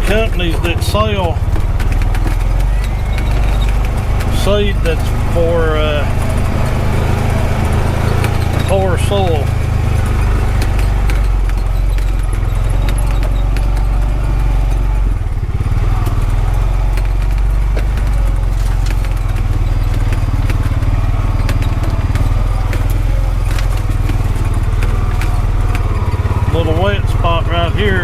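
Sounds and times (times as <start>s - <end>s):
utility vehicle engine running: 0.0s - 28.0s
vehicle rattles and clicks: 0.0s - 28.0s.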